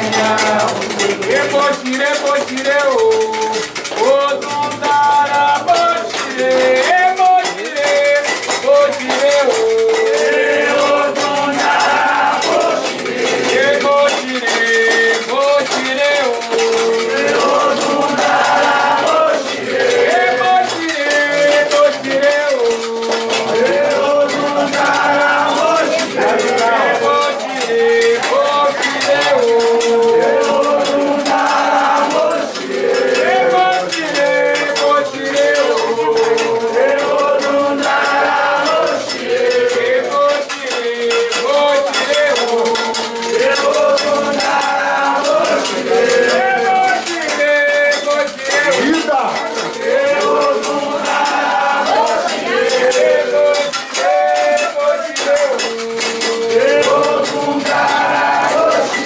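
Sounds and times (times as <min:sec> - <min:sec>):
rattling percussion: 0:00.0 - 0:59.0
voices chanting: 0:00.0 - 0:59.0.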